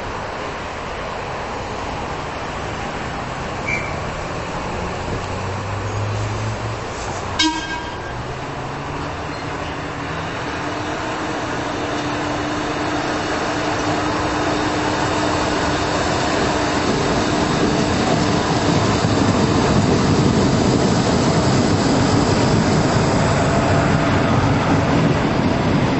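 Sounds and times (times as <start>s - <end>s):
diesel railcar engine: 0.0s - 25.9s
train wheels rumbling: 0.0s - 25.9s.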